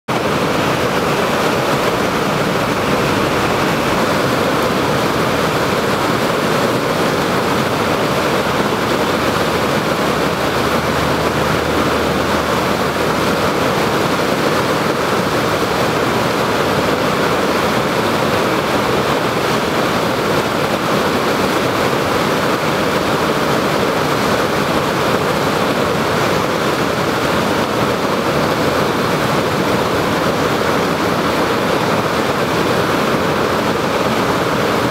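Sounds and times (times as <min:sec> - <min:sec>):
roar of whitewater: 0:00.1 - 0:34.9.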